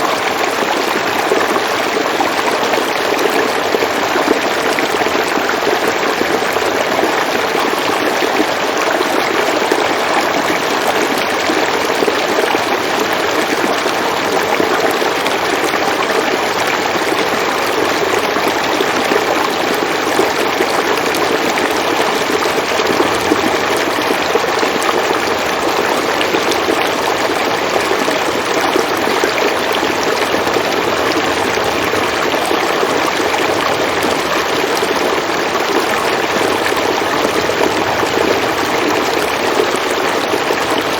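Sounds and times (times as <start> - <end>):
river water flowing over rocks: 0.0 - 40.9.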